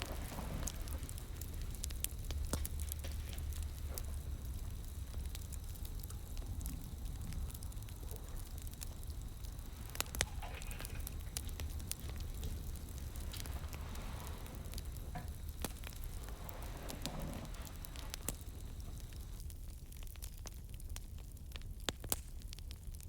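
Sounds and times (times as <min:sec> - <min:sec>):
low steady rumble: 0:00.0 - 0:19.8
wood fire crackling and popping: 0:00.0 - 0:23.0.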